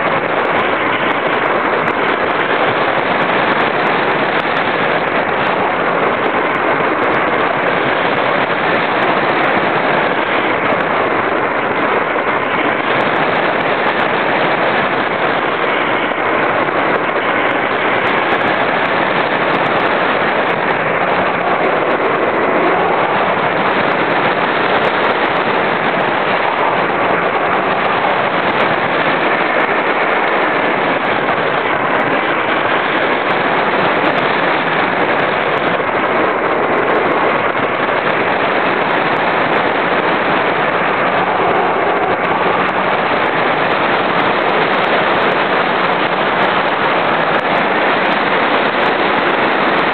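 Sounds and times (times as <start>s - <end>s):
air rushing over microphone: 0.0s - 49.9s.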